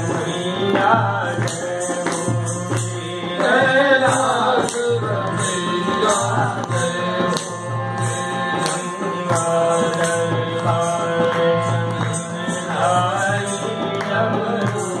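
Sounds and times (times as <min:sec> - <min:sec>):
steady held drone tone: 0:00.0 - 0:14.8
sung devotional melody: 0:00.0 - 0:15.0.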